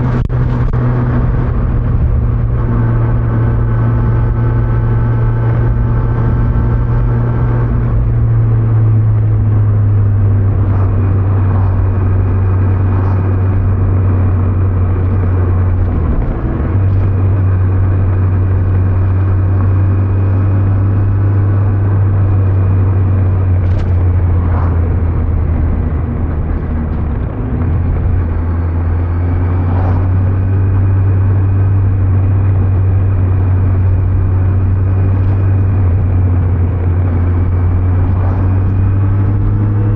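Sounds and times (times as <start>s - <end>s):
motorcycle engine cruising: 0.0s - 39.9s
wind noise: 0.0s - 39.9s.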